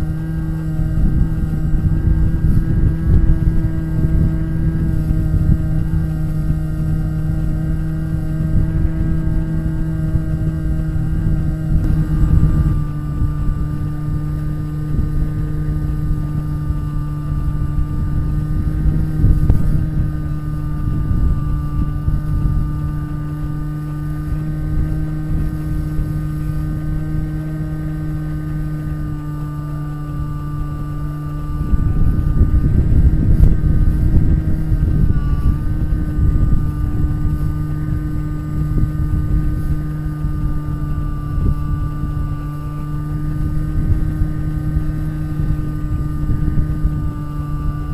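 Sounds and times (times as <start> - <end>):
electric motor and propeller: 0.0 - 47.9
wind buffeting microphone: 0.0 - 47.9.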